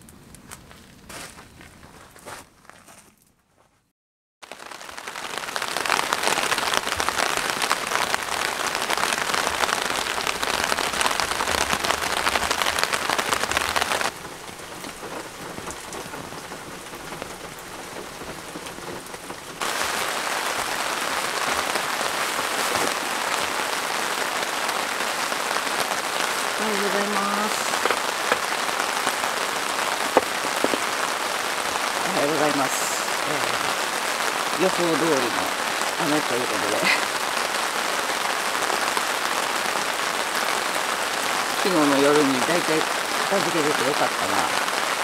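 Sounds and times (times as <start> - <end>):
rain on a tent: 0.0 - 2.8, 4.4 - 45.0.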